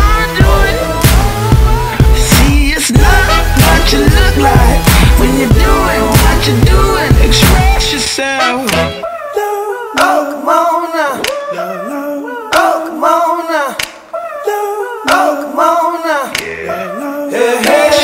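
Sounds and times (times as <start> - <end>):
pop music with sung vocals: 0.0 - 18.0.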